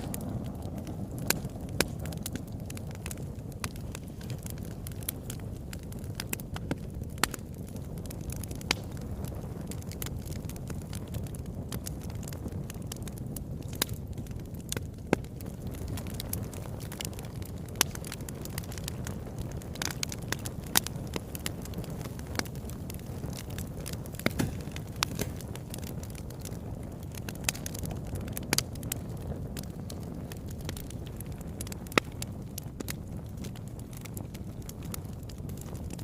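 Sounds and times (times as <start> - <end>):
logs crackling and popping: 0.0 - 36.0
low rumble of flames: 0.0 - 36.0.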